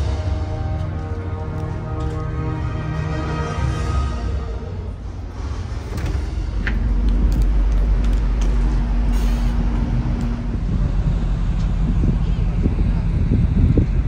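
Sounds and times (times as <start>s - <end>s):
ferry machinery rumble: 0.0s - 14.0s.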